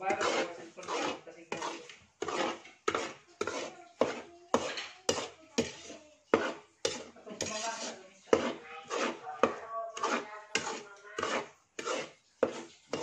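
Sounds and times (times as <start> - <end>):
metal spatula scraping a wok: 0.0 - 13.0.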